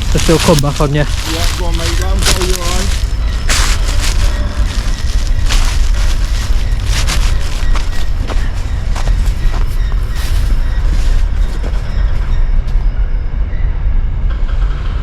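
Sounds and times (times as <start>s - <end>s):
twigs crackling: 0.0s - 12.4s
train rumbling past: 0.0s - 15.0s.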